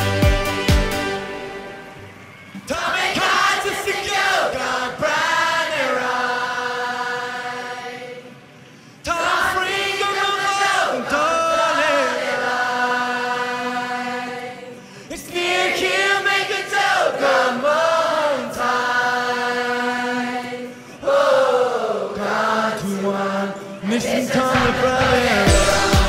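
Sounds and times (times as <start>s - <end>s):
choir singing long held notes: 0.0s - 26.0s.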